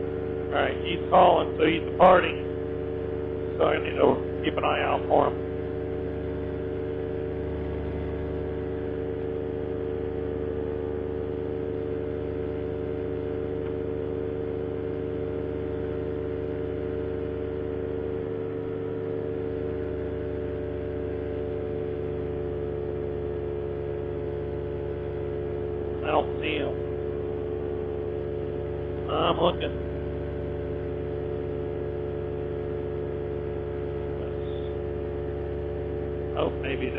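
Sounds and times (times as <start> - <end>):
paramotor engine drone: 0.0 - 36.9.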